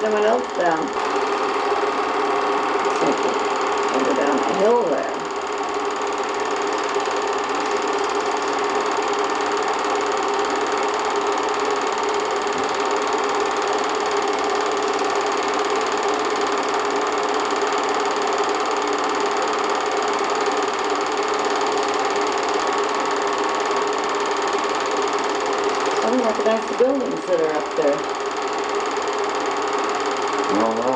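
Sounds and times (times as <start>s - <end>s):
film projector whirring: 0.0s - 30.9s.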